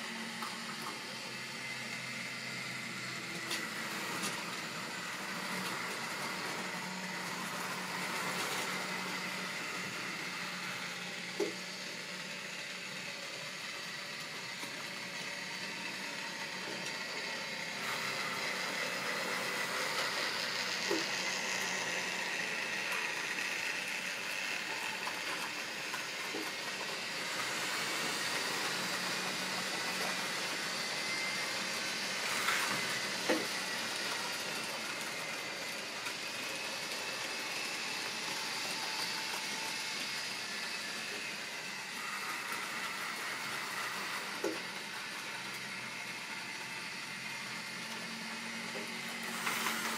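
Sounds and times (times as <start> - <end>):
model train motor whine: 0.0 - 49.9.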